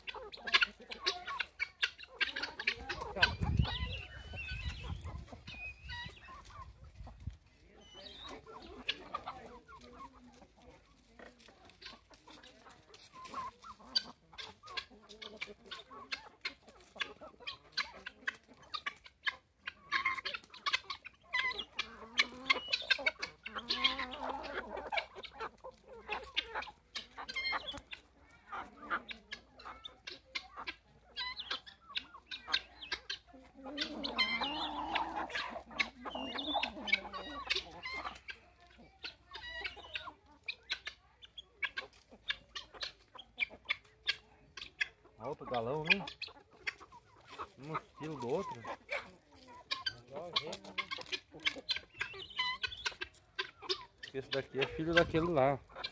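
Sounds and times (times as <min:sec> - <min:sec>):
hens clucking: 0:00.0 - 0:55.9.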